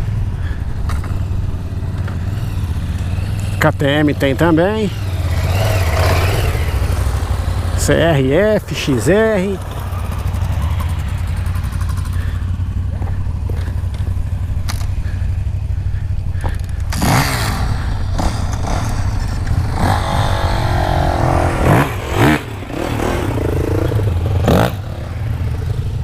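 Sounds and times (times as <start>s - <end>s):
motorcycle engines rumbling: 0.0s - 26.0s
motorcycles revving and passing: 0.0s - 26.0s.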